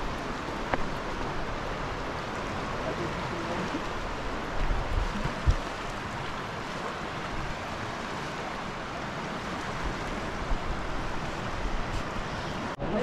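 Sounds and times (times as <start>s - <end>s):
river rushing past rocks: 0.0s - 13.0s.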